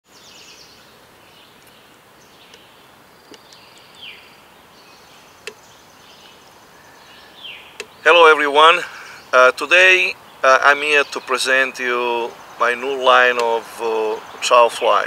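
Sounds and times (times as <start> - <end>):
small birds chirping: 0.0 - 15.0
steady hiss: 0.1 - 15.0.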